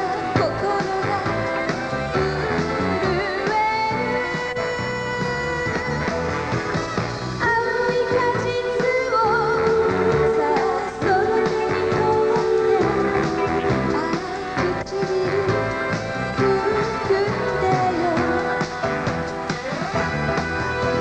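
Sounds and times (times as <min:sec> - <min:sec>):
woman singing pop song: 0:00.0 - 0:06.3, 0:07.4 - 0:20.0
backing band: 0:00.0 - 0:21.0.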